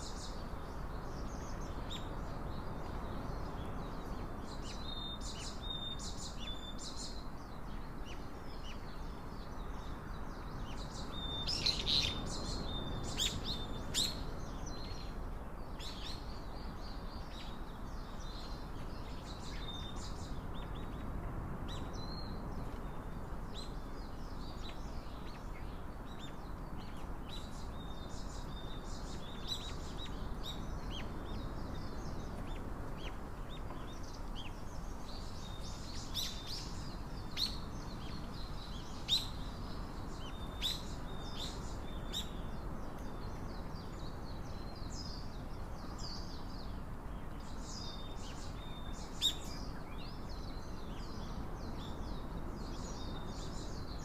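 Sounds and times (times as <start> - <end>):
background hiss: 0.0 - 54.0
small birds chirping: 0.0 - 54.0.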